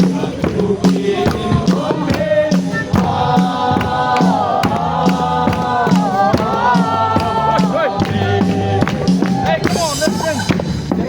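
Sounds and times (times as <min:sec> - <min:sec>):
group singing a worship song: 0:00.0 - 0:09.7
low repeating accompaniment: 0:00.0 - 0:11.0.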